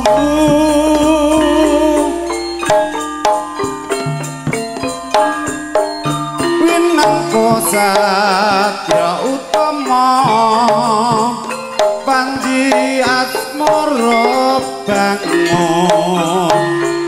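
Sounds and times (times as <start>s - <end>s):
gamelan ensemble: 0.0s - 17.0s
hand drums: 0.0s - 17.0s
melody with wavering vibrato: 0.0s - 17.0s.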